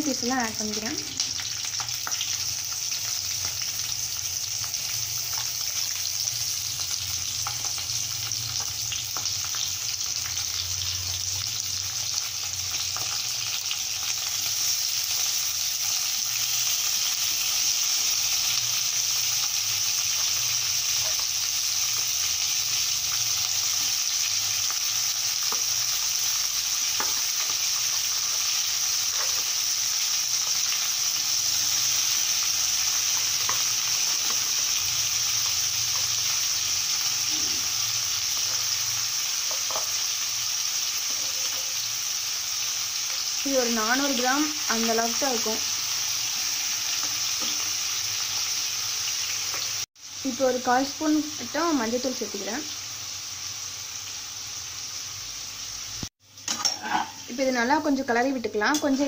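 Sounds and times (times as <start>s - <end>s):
chicken sizzling in hot oil: 0.0s - 59.0s.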